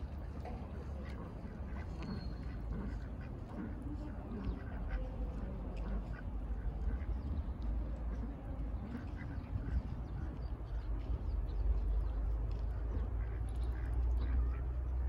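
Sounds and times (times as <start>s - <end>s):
ducks quacking: 0.0s - 15.0s
steady low rumble: 0.0s - 15.0s.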